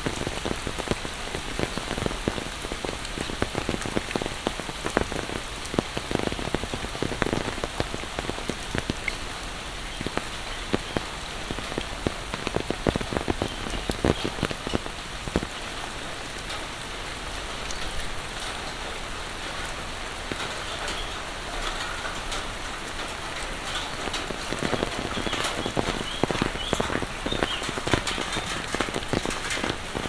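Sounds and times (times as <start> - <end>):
close raindrop impacts: 0.0 - 30.0
heavy rain falling: 0.0 - 30.0.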